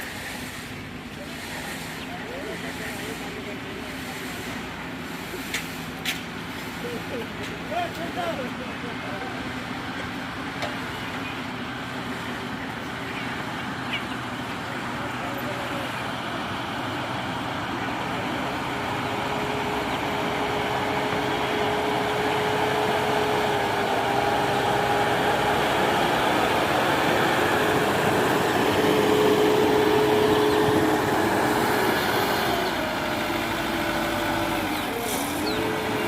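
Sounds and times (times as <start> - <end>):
backhoe diesel engine working: 0.0 - 36.0.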